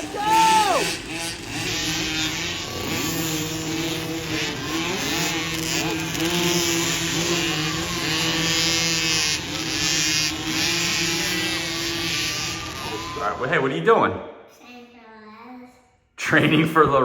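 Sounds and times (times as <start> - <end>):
motocross bike engines revving: 0.0 - 13.9.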